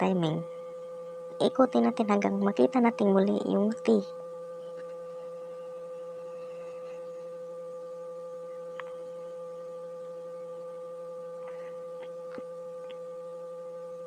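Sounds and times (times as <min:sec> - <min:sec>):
high-pitched hum: 0:00.0 - 0:14.0.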